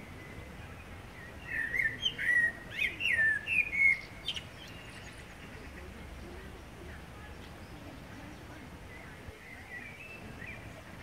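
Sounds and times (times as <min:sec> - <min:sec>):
blackbird singing: 0:00.0 - 0:11.0.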